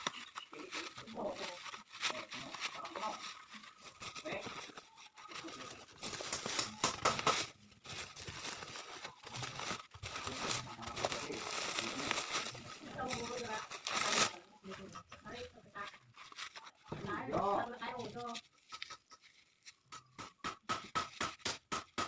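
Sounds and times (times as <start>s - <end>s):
plastic packaging crinkling: 0.0s - 19.9s.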